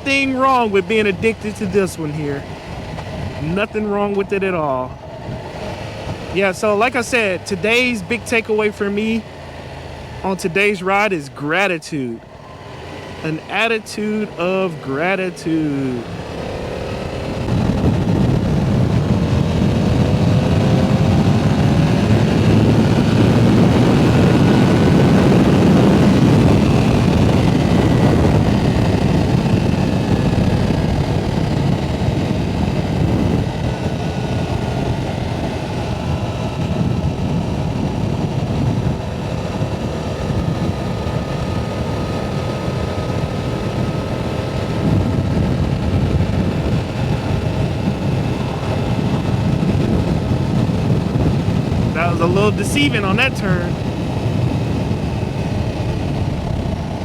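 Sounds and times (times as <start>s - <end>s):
wind rush on microphone: 0.0s - 11.2s, 15.4s - 57.0s
motorcycle engine accelerating: 0.0s - 57.0s.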